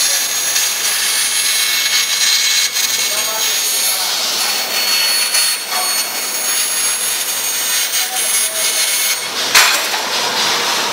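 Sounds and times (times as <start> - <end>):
laser cutting head hissing: 0.0 - 9.3
thin high whines: 0.0 - 9.4.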